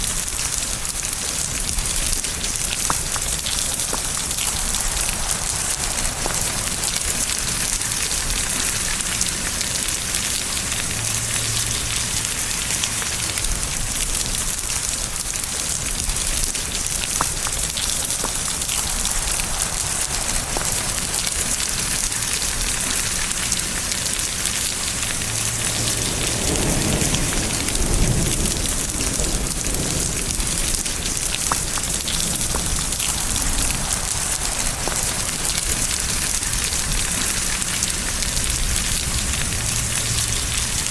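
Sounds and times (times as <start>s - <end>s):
heavy rain falling: 0.0s - 40.9s
low roll of thunder: 1.6s - 9.0s, 13.4s - 23.4s, 25.3s - 40.9s.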